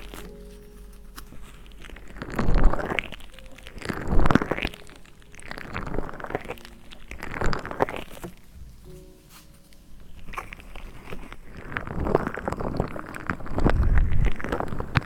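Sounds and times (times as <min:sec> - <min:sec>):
rubbing and crackling on microphone: 0:00.0 - 0:15.0.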